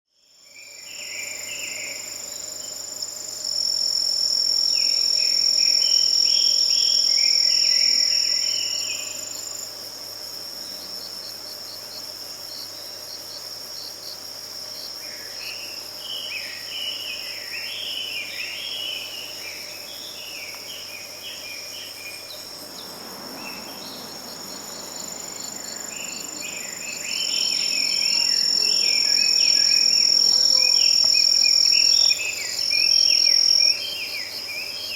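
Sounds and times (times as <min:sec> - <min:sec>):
crickets trilling: 0:00.2 - 0:34.9.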